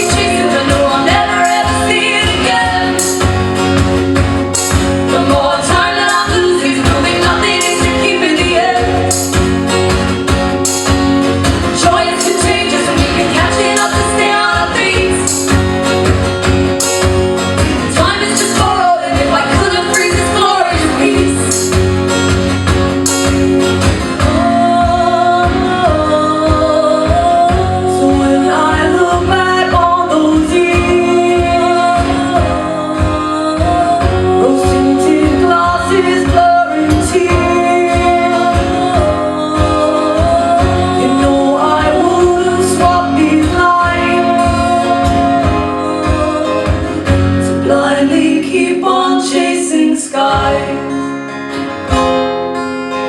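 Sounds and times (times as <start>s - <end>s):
women singing: 0.0s - 9.9s, 11.4s - 15.9s, 17.6s - 21.9s, 24.1s - 51.1s
acoustic guitar strumming: 0.0s - 53.0s.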